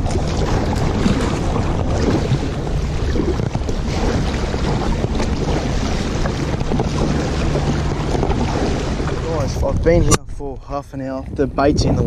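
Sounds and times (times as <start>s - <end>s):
water lapping against hull: 0.0s - 12.0s
wind buffeting microphone: 0.0s - 12.0s.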